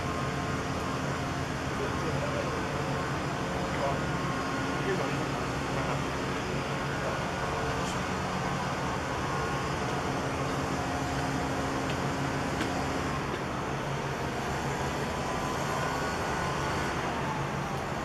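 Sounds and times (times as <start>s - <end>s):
engine drone: 0.0s - 18.0s.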